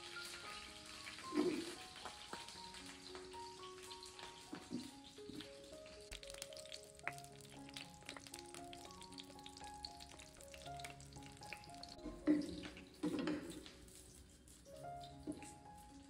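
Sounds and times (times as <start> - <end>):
egg sizzling in a frying pan: 0.0 - 16.0.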